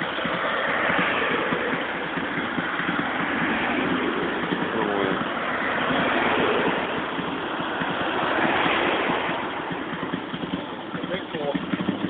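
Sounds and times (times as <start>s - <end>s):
loud rushing noise: 0.0s - 11.5s
motorcycle engine idling: 0.0s - 12.0s.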